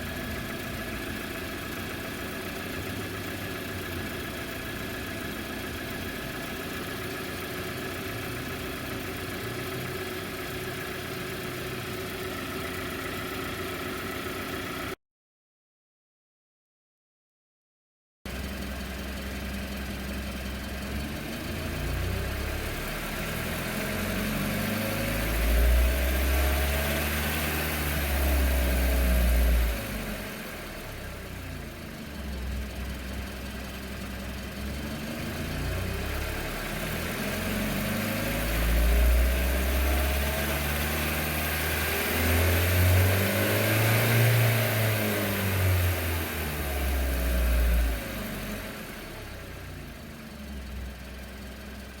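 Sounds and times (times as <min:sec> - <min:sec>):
car engine idling: 0:00.0 - 0:14.9, 0:18.3 - 0:24.4, 0:28.1 - 0:52.0.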